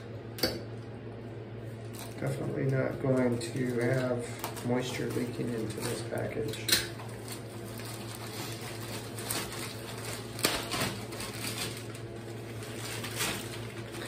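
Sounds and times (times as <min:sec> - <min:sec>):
steady low hum: 0:00.0 - 0:14.0
plastic bag crinkling: 0:01.9 - 0:14.0.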